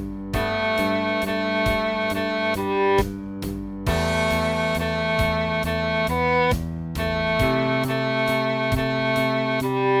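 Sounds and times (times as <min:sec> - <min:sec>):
slow cello melody: 0:00.0 - 0:10.0
steady beat: 0:00.0 - 0:10.0.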